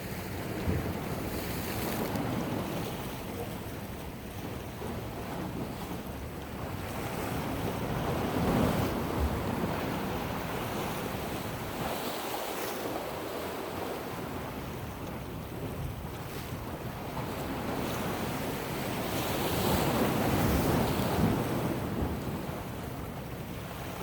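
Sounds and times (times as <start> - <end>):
ocean surf washing: 0.0 - 24.0
wind buffeting microphone: 0.0 - 24.0.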